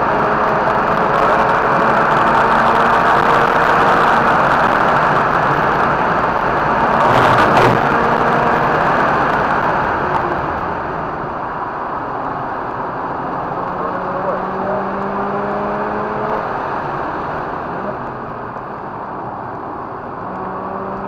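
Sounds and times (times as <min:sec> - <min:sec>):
road noise: 0:00.0 - 0:21.0
wind noise: 0:00.0 - 0:21.0.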